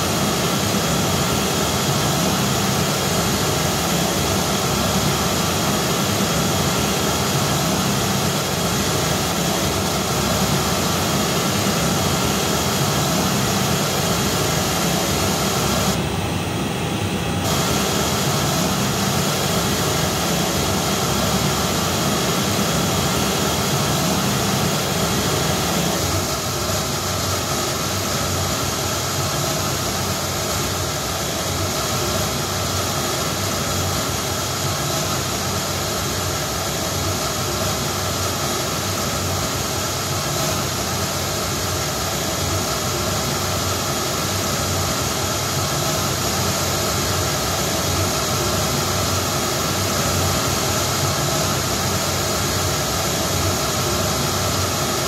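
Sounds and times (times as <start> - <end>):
pink noise through loudspeakers: 0.0 - 55.0.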